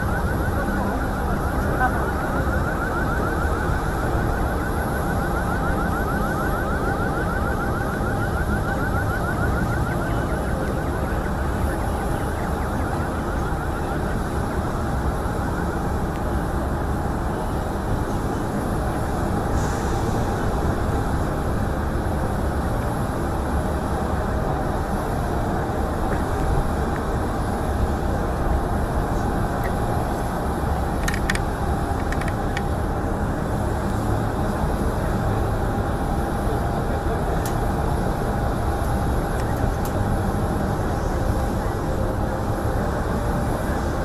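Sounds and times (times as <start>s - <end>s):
crowd voices: 0.0s - 44.0s
loud rumbling airfield noise: 0.0s - 44.0s.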